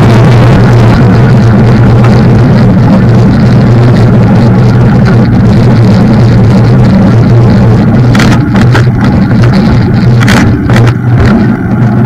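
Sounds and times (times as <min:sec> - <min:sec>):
rough rolling noise: 0:00.0 - 0:12.0
vehicle motor running: 0:00.0 - 0:12.0.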